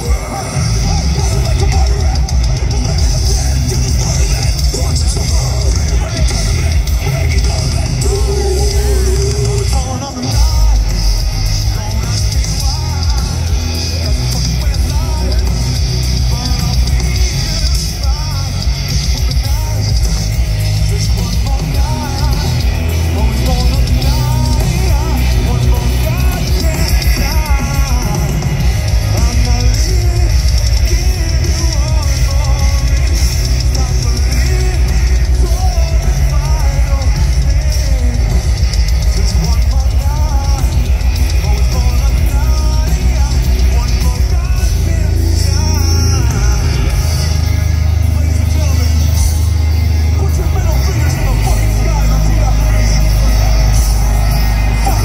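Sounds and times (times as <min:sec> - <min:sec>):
heavy metal band playing: 0:00.0 - 0:55.0
person singing: 0:00.0 - 0:55.0.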